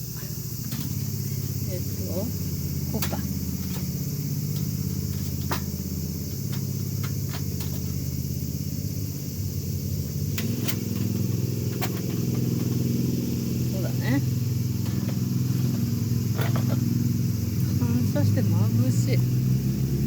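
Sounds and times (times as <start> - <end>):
low engine-like drone: 0.0 - 20.0.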